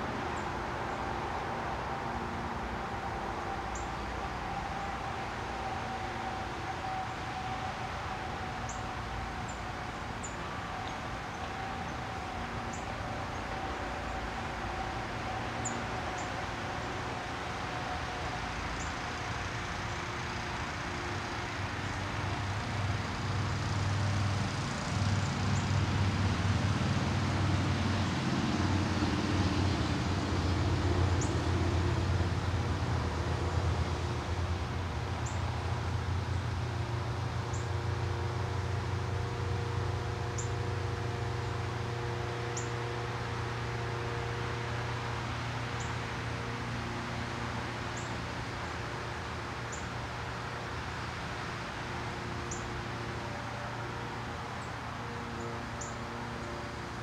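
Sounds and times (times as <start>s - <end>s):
vehicle engine drone: 0.0s - 57.0s.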